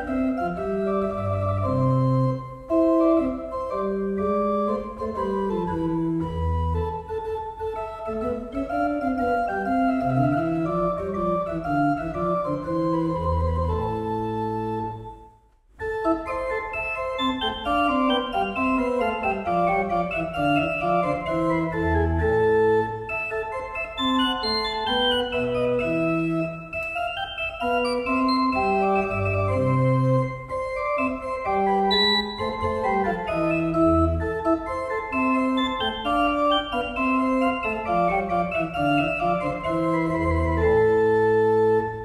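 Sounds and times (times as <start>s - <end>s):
organ playing held chords: 0.0s - 42.0s.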